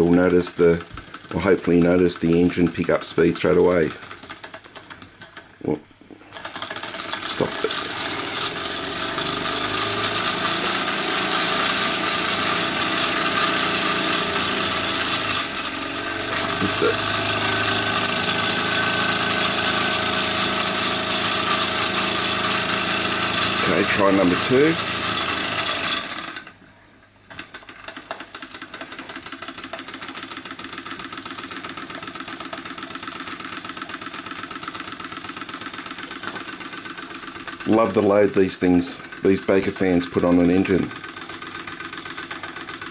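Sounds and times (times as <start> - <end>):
small model engine running fast: 6.3 - 26.4, 27.9 - 42.9.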